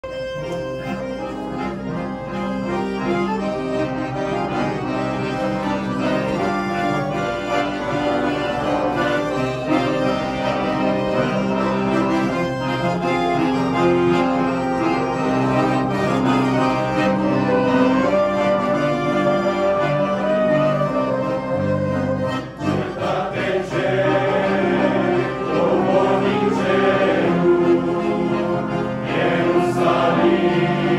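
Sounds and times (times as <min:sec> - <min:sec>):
accordions playing held chords: 0:00.0 - 0:30.9.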